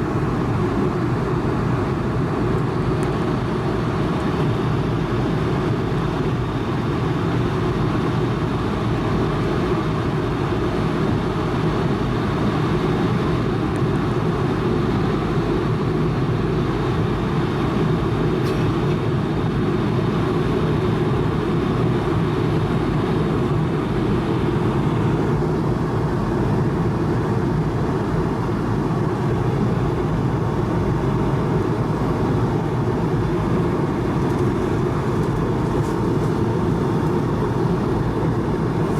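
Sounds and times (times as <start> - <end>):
airflow and jet engine noise: 0.0 - 38.9
faint steady whine: 0.0 - 38.9.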